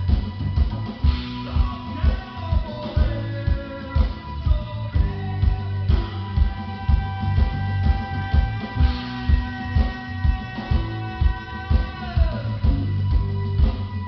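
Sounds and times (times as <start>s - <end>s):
bass: 0.0s - 14.0s
drums: 0.0s - 14.0s
electric guitar: 0.0s - 14.0s.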